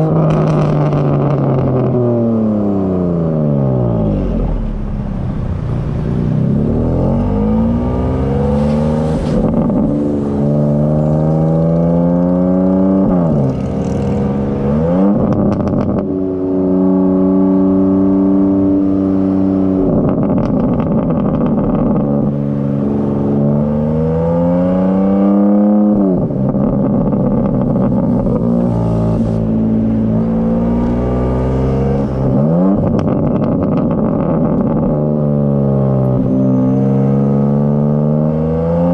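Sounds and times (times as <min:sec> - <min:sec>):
exhaust crackles: 0:00.0 - 0:16.4, 0:18.9 - 0:25.1, 0:25.8 - 0:36.3
car engine accelerating hard: 0:00.0 - 0:38.9.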